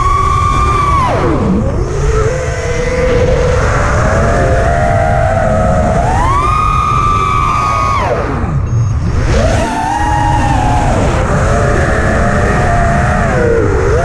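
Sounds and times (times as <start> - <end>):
drone motors whining: 0.0 - 14.0
wind rumbling on microphone: 0.0 - 14.0.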